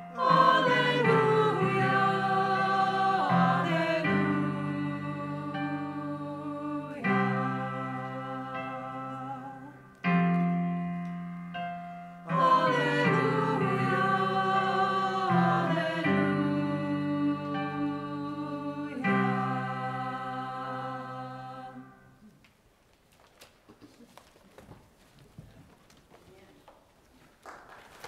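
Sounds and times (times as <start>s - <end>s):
slow worship music chords: 0.0s - 22.6s.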